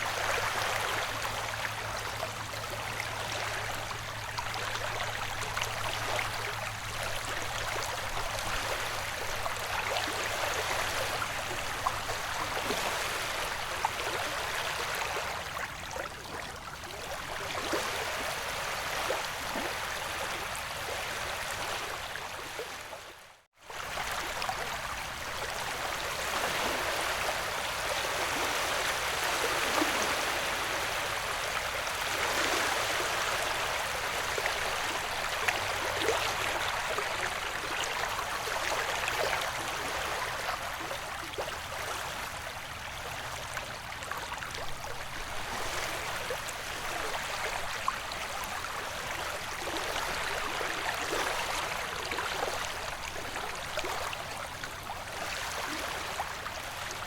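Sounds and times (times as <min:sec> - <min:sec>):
ocean waves: 0:00.0 - 0:57.0.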